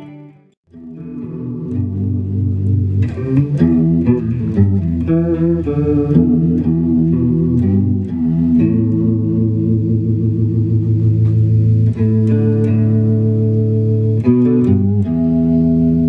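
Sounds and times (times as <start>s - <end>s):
electric guitar with chorus: 0.0s - 16.0s.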